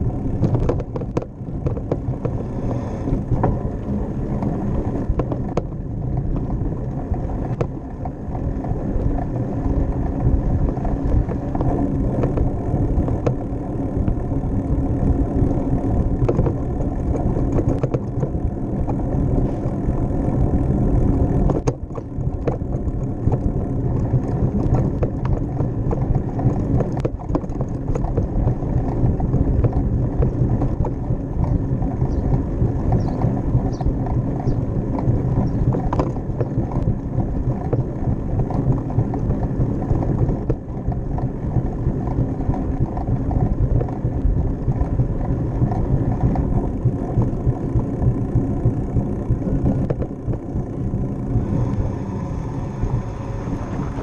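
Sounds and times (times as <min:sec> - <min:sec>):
sharp clicks from bumps: 0:00.0 - 0:51.9
bicycle rolling: 0:00.0 - 0:54.0
faint steady hum: 0:00.0 - 0:54.0
wind rumble on microphone: 0:00.0 - 0:54.0.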